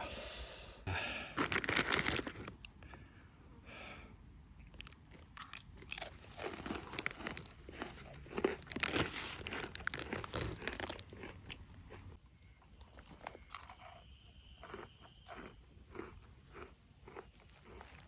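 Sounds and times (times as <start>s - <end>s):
hard crackers being chewed: 1.4s - 3.0s, 4.5s - 12.2s, 12.8s - 18.0s.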